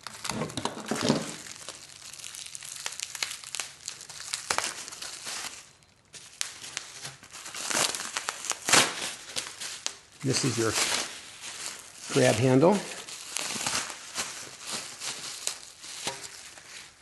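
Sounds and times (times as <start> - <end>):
packing material rustling: 0.0 - 17.0.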